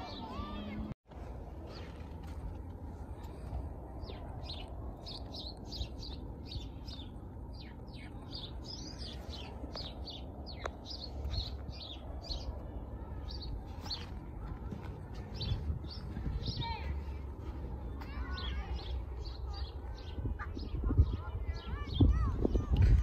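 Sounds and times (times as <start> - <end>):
steady low rumble: 0.4 - 23.0
small birds chirping: 1.6 - 23.0.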